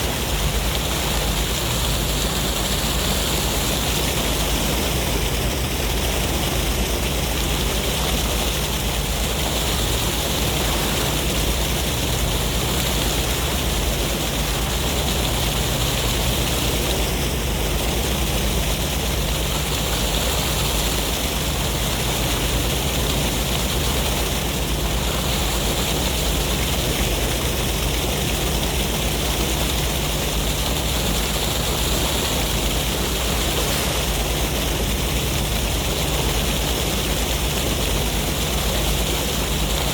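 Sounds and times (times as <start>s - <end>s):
sea waves: 0.0s - 39.9s
wind: 0.0s - 39.9s.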